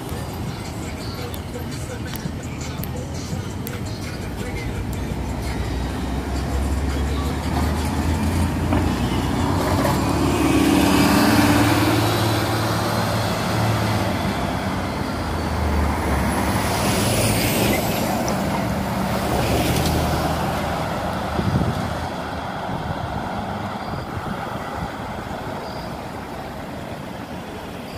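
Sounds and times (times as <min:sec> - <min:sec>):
bus driving past: 0:00.0 - 0:27.9
street traffic noise: 0:00.0 - 0:27.9.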